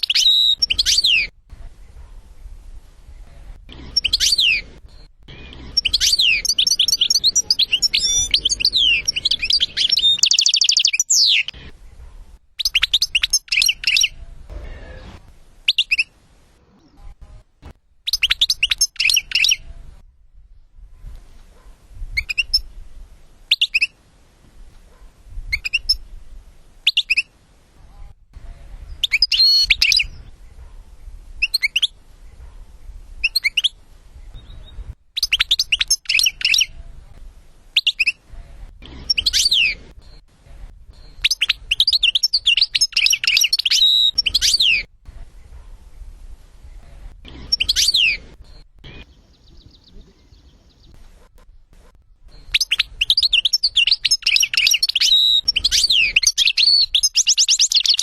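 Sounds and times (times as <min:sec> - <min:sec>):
bird twittering song: 0:00.0 - 0:14.5, 0:15.6 - 0:16.1, 0:18.0 - 0:19.8, 0:22.1 - 0:22.8, 0:24.8 - 0:26.2, 0:28.8 - 0:36.8, 0:37.7 - 0:58.0.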